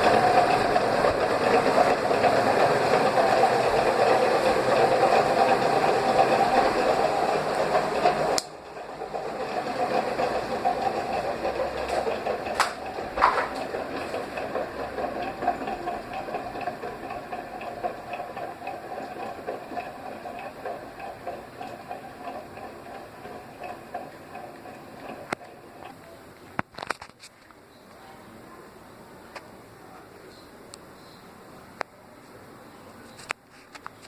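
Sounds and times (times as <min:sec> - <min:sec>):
ceiling fan motor hum: 0:00.0 - 0:34.0.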